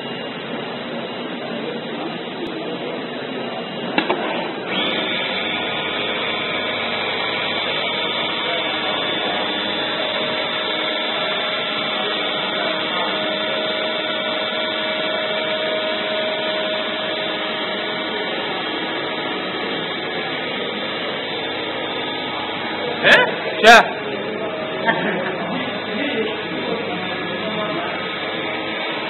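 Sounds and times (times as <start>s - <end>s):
blower-like hum: 0.0s - 29.0s
high machine whines: 0.0s - 29.0s
mid-pitched whine: 0.0s - 29.0s.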